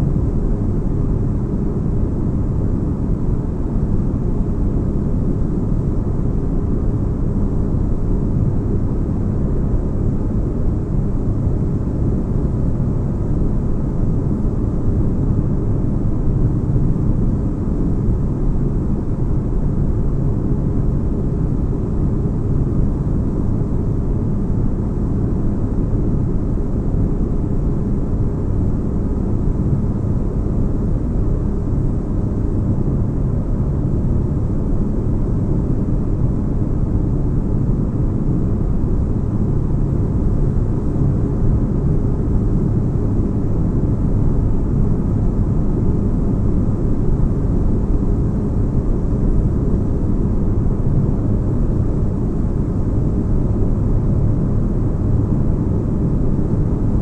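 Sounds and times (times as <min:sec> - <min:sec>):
faint hum: 0:00.0 - 0:57.0
low noise bed: 0:00.0 - 0:57.0.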